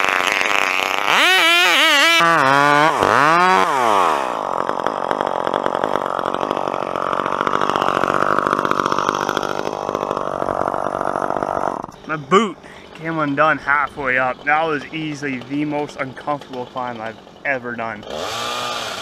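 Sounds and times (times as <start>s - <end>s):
chainsaw cutting and revving: 0.0s - 19.0s.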